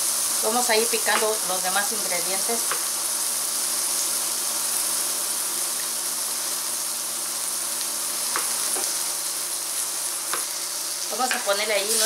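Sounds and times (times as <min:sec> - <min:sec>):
onion and garlic frying hiss: 0:00.0 - 0:12.0.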